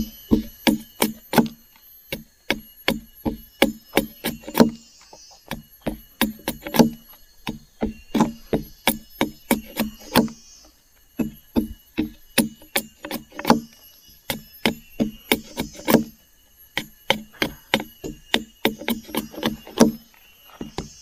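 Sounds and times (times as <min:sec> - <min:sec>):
machete chopping wood: 0:00.0 - 0:10.4, 0:11.2 - 0:13.7, 0:14.3 - 0:16.1, 0:16.8 - 0:20.0.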